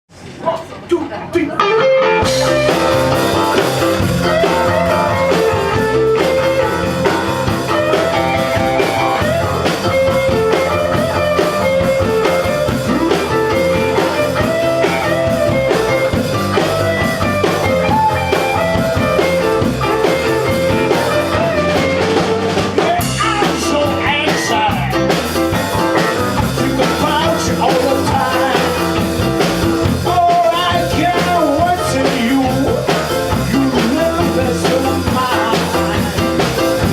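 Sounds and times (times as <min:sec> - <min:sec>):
band playing blues-rock: 0:00.7 - 0:36.9.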